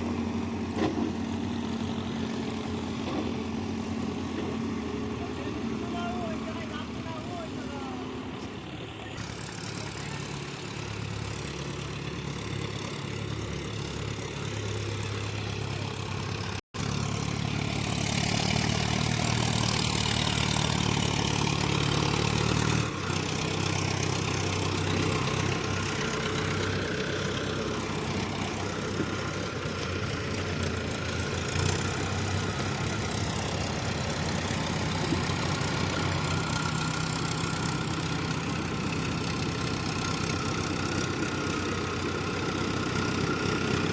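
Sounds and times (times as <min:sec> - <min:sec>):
heavy machinery diesel engine running: 0:00.0 - 0:43.9.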